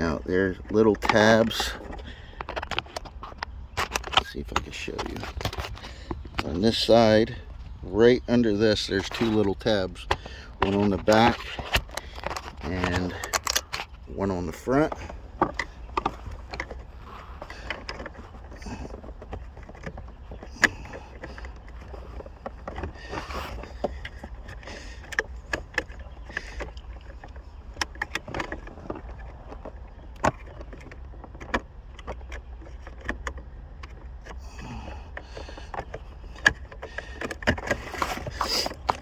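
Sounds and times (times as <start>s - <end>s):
plastic trim clicks and rattles: 0.0s - 39.0s
steady low hum: 0.0s - 39.0s.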